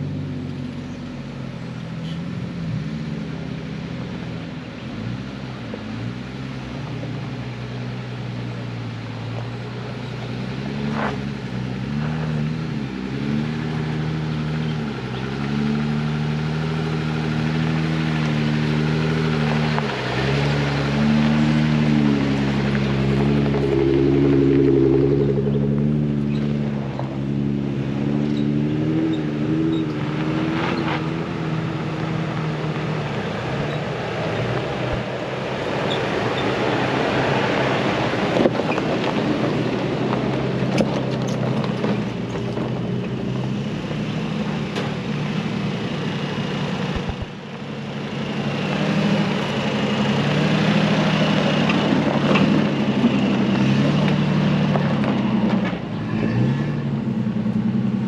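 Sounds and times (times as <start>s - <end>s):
off-road truck engines crawling: 0.0s - 58.0s.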